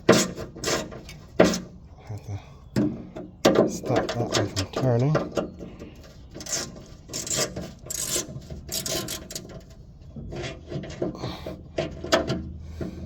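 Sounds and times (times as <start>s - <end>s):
wrench scraping metal on metal: 0.0s - 1.7s, 3.5s - 13.0s.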